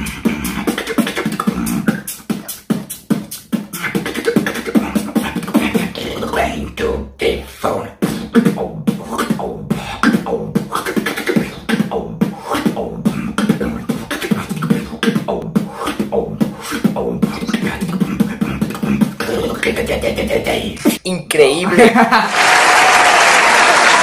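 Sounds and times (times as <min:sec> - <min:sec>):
beatboxing into a microphone: 0:00.0 - 0:21.2.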